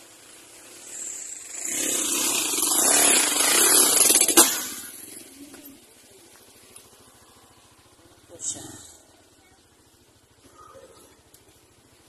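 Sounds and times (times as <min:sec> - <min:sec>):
motor vehicle passing: 0:00.0 - 0:12.0.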